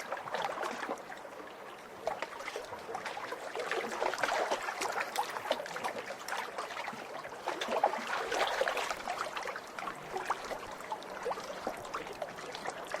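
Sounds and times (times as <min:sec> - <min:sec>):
small waves lapping shore: 0:00.0 - 0:13.0.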